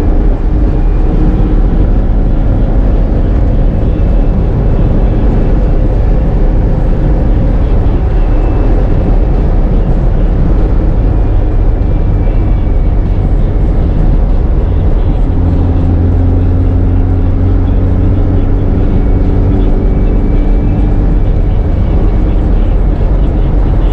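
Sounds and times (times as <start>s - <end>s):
car engine running loudly: 0.0s - 23.9s.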